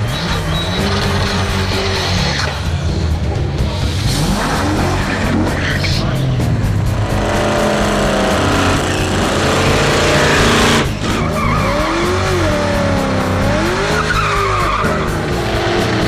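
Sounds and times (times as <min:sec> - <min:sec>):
car engine revving: 0:00.0 - 0:16.0
tyres squealing: 0:00.0 - 0:16.0.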